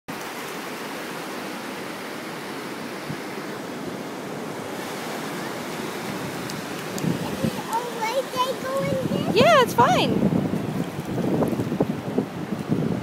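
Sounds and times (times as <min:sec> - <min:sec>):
surf breaking on beach: 0:00.1 - 0:13.0.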